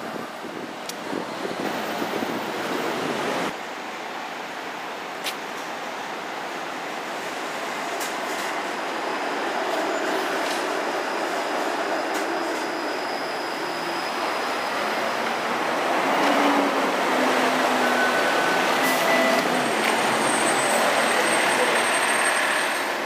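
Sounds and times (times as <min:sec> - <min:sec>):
streetcar wheels rolling on rails: 0:00.0 - 0:23.0.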